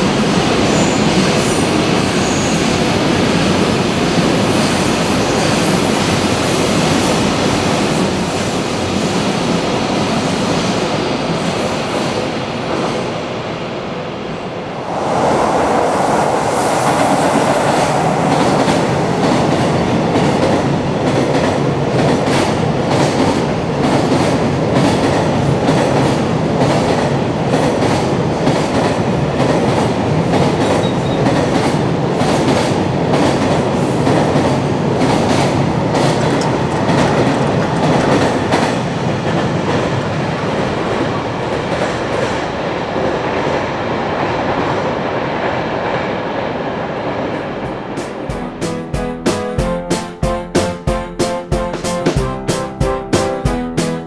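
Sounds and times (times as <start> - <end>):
freight train rushing past: 0.0 - 54.0.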